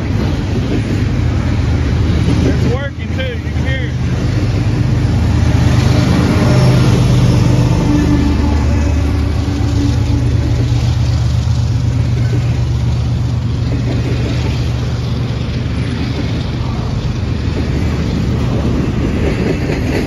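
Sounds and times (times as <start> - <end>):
diesel locomotive engines droning: 0.0 - 20.0
freight cars rumbling on rails: 0.0 - 20.0.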